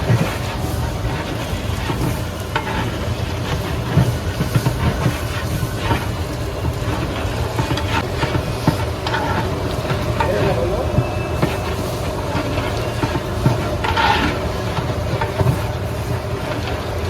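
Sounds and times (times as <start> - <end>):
food sizzling in a pot: 0.0 - 17.0
ladle scraping a pot: 0.0 - 17.0.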